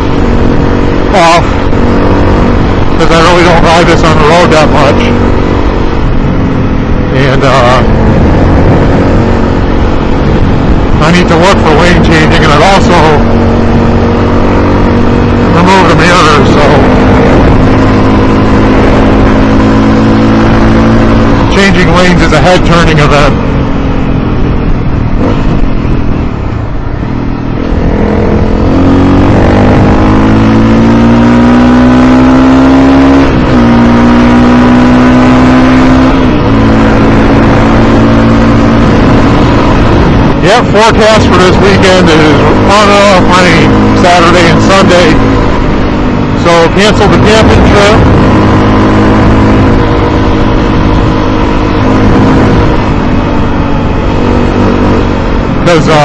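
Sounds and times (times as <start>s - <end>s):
wind noise on microphone: 0.0s - 4.0s, 5.0s - 56.0s
motorcycle engine accelerating: 0.0s - 56.0s.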